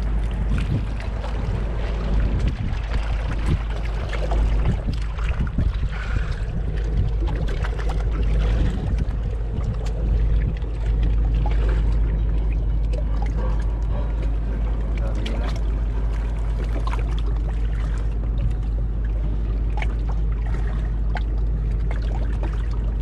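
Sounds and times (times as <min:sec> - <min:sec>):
moving seawater: 0:00.0 - 0:23.0
wind buffeting microphone: 0:00.0 - 0:23.0.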